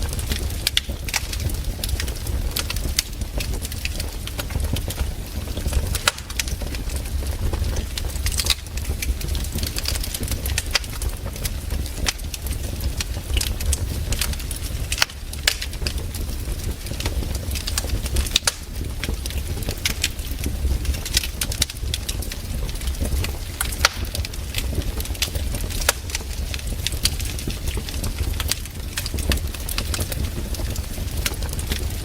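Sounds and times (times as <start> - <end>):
campfire crackling and popping: 0.0 - 32.0
low steady rumble: 0.0 - 32.0.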